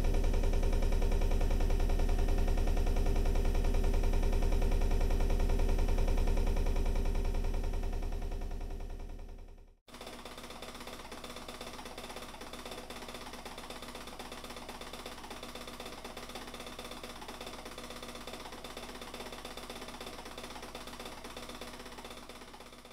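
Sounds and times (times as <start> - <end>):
small machine humming and clicking: 0.0 - 22.9.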